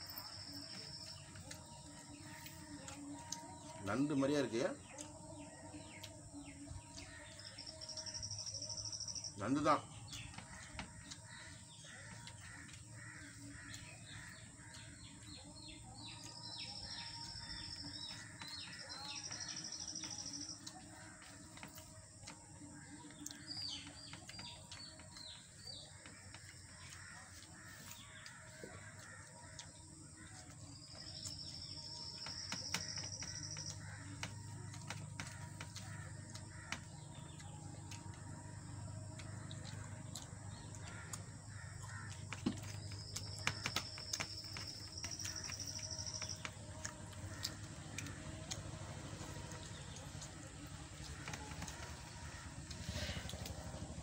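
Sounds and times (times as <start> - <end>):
birds calling: 0.0 - 54.0.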